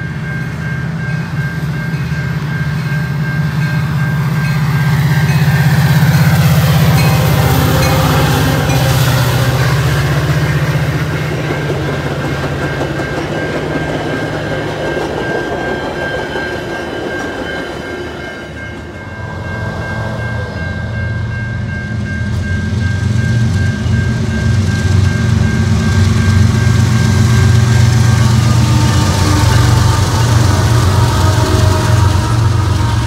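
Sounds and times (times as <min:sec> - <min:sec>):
crossing bell ringing: 0:00.0 - 0:33.0
diesel locomotive rumble: 0:00.0 - 0:33.0
train cars rolling past: 0:00.0 - 0:33.0.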